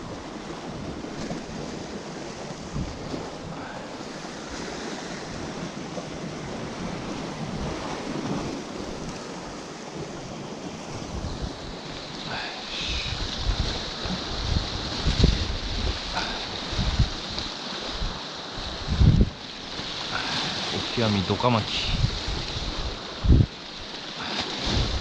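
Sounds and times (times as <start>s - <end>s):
wind buffeting microphone: 0.0s - 19.4s, 20.9s - 24.0s, 24.6s - 25.0s
surf washing against rocks: 0.0s - 25.0s.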